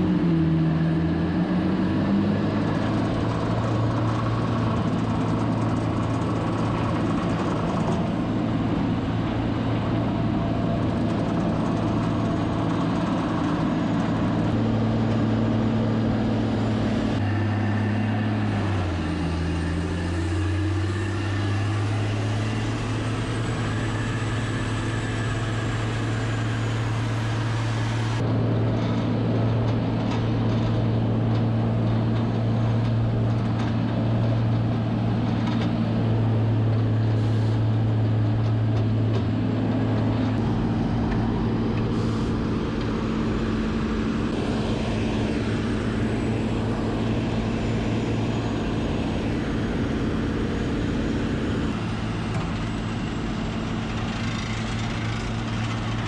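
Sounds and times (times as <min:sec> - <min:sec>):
hay chopper grinding bales: 0:00.0 - 0:56.0
loader engine running: 0:00.0 - 0:56.0.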